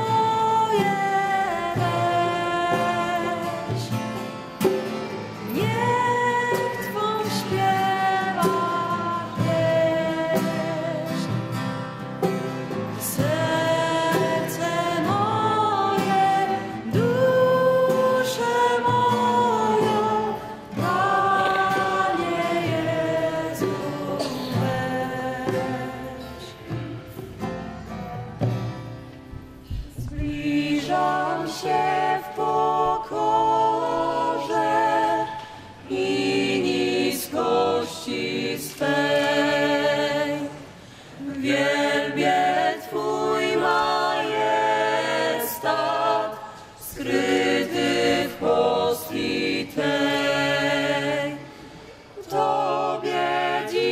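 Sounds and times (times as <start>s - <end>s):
choir singing in harmony: 0.0s - 28.0s, 30.0s - 53.9s.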